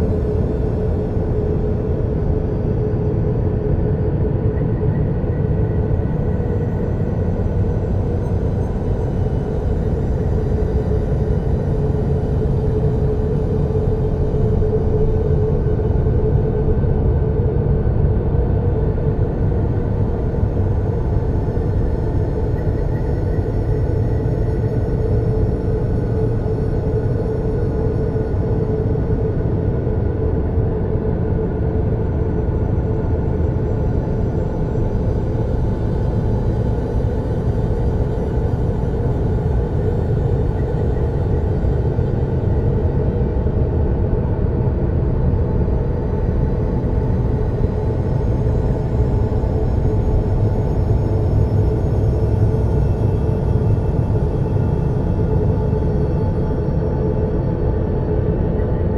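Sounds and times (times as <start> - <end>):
ambient drone soundscape: 0.0 - 58.9.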